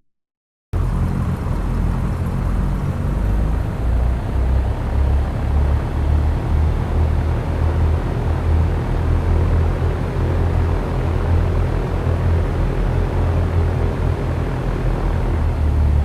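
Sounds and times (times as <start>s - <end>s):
propeller plane engine drone: 0.8s - 16.0s.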